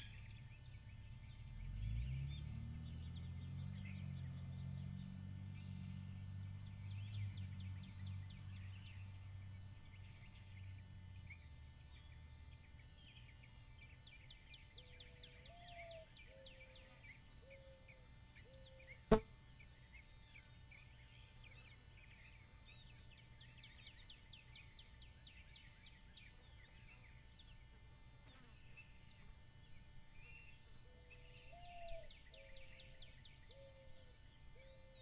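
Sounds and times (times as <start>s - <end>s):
small birds chirping and trilling: 0.0s - 35.0s.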